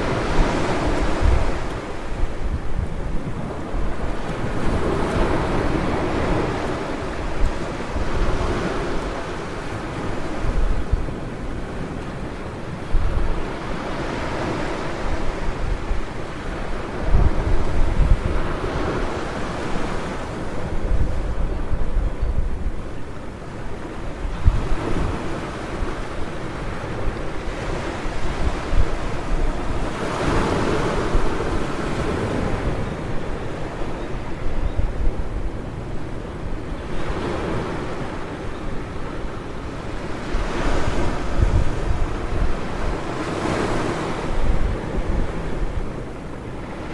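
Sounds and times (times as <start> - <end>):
ocean surf breaking on beach: 0.0 - 46.9
wind gusting on microphone: 0.0 - 46.9.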